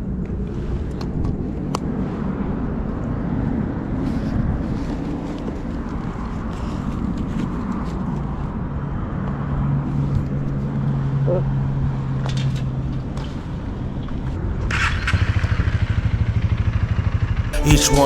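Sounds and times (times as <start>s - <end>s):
street traffic noise: 0.0s - 15.4s.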